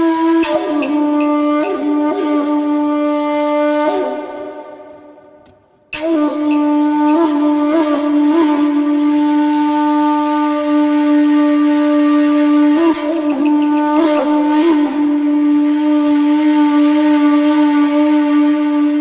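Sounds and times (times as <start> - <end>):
wind instrument long note: 0.0 - 19.0.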